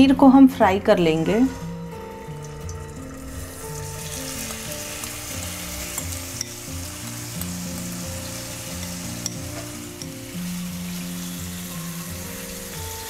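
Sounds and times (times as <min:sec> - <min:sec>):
soft background music: 0:00.0 - 0:13.0
cheese cubes sizzling in oil: 0:01.9 - 0:13.0.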